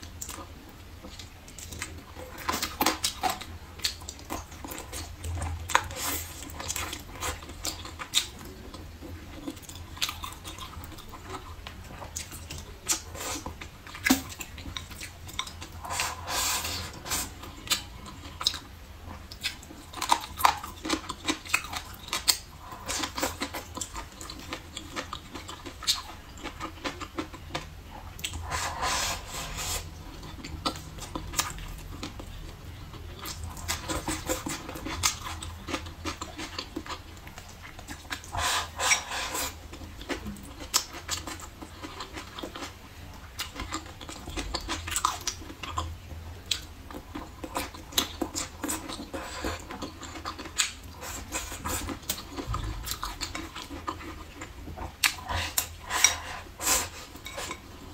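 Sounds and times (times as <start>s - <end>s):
wet chewing sounds: 0.0s - 57.9s.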